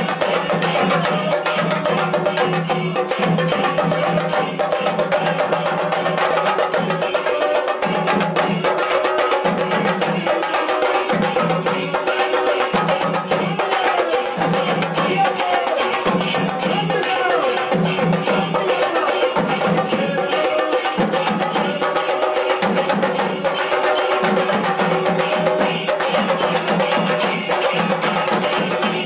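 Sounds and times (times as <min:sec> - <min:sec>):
drums beaten with sticks: 0:00.0 - 0:29.0.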